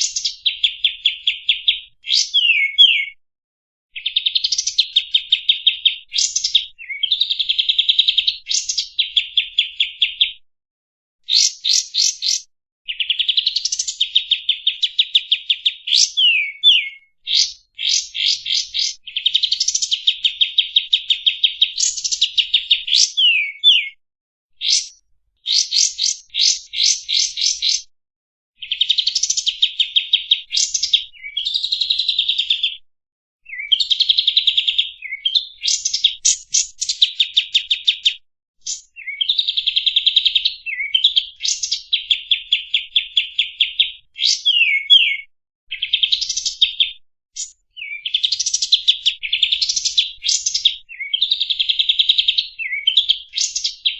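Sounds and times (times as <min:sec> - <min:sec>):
bird chirping and whistling: 0:00.0 - 0:03.2, 0:04.0 - 0:10.4, 0:11.3 - 0:24.0, 0:24.6 - 0:27.8, 0:28.6 - 0:32.7, 0:33.5 - 0:53.9.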